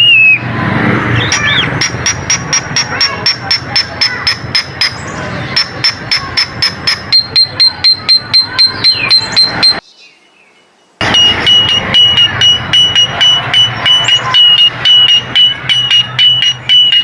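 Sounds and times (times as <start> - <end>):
bird calling sharp high notes: 1.1 - 9.9, 11.0 - 17.0.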